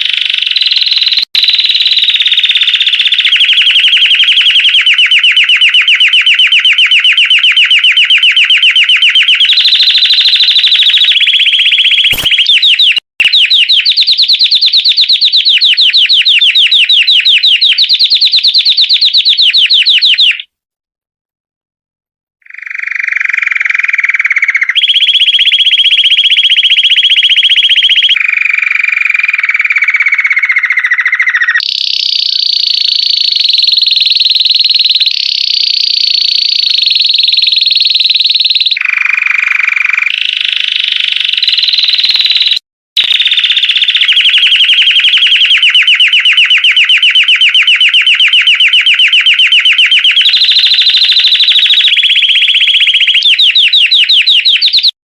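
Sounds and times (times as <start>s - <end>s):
canary singing trills: 0.0s - 20.5s, 22.4s - 55.0s.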